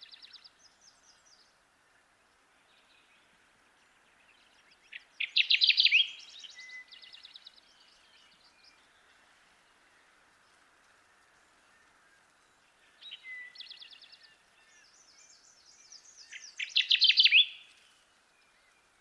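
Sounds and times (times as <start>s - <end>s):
warbler singing: 2.2s - 10.6s, 11.2s - 19.0s.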